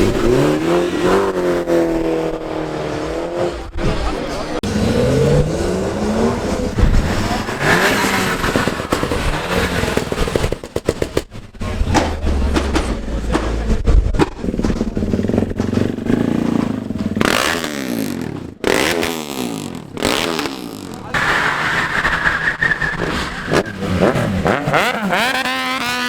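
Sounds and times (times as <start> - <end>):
car engines revving: 0.0 - 26.0
exhaust bangs: 0.0 - 26.0.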